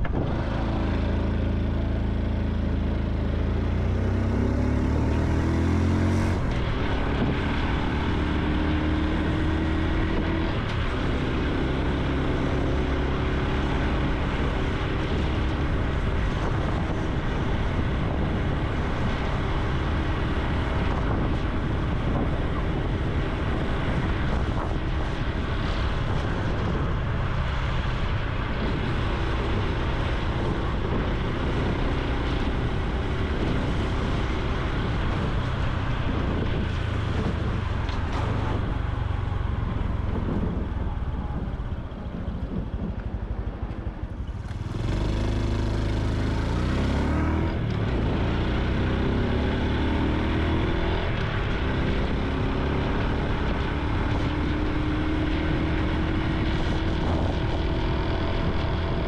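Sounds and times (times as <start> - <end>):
constant rushing noise: 0.0 - 59.0
motorcycle engine revving: 0.0 - 59.0.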